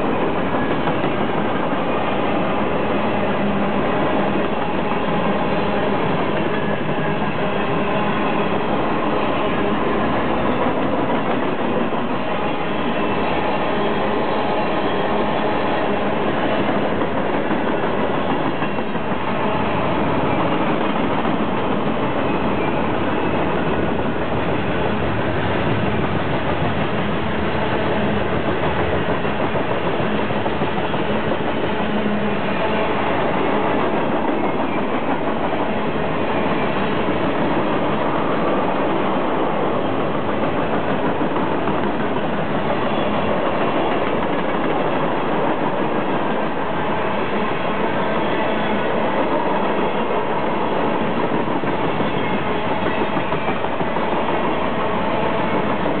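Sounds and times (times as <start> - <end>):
freight train rolling past: 0.0 - 56.0
steel wheels clattering on rails: 0.0 - 56.0.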